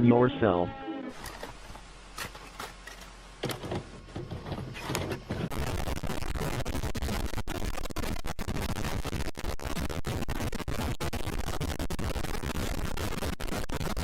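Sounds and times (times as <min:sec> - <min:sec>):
crackling static hiss: 0:00.0 - 0:14.0.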